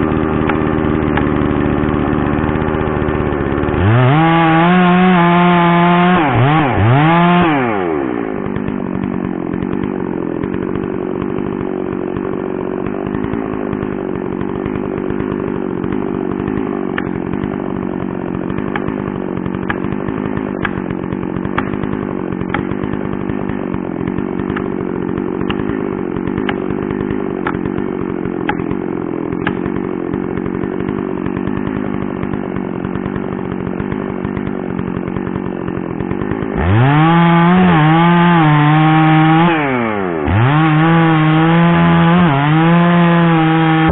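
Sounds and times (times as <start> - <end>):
chainsaw cutting tree trunk: 0.0 - 43.9.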